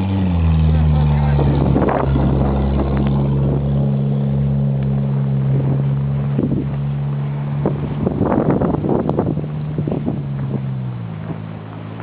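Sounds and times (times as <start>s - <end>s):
engine humming: 0.0s - 12.0s
wind buffeting microphone: 0.6s - 12.0s.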